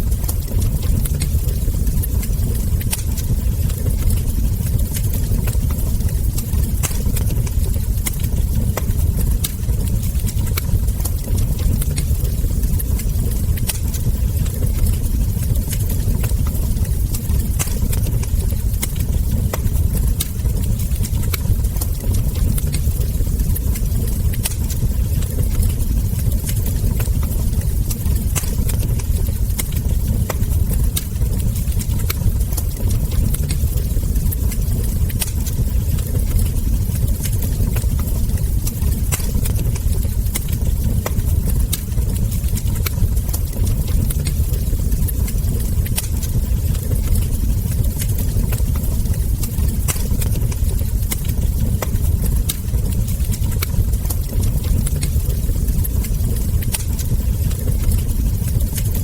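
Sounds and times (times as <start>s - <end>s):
burning logs popping and snapping: 0.0s - 59.0s
flames rumbling: 0.0s - 59.0s
wood fire crackling: 0.0s - 59.0s.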